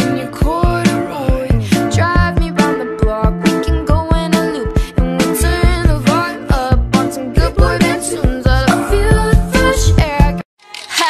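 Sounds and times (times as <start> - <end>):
person singing: 0.0 - 11.0
pop song: 0.0 - 11.0.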